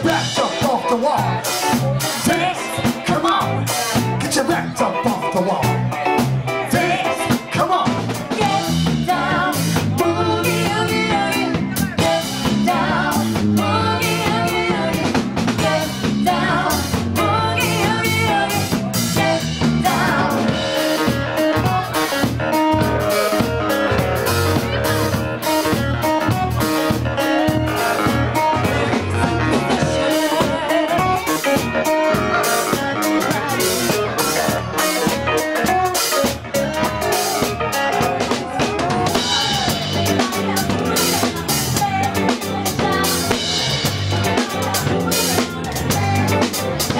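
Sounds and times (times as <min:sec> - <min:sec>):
live rock band: 0:00.0 - 0:46.9.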